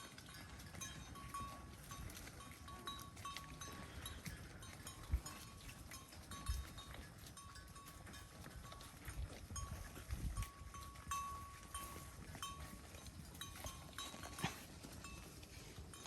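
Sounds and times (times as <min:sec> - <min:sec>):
cattle chewing hay: 0:00.0 - 0:16.0.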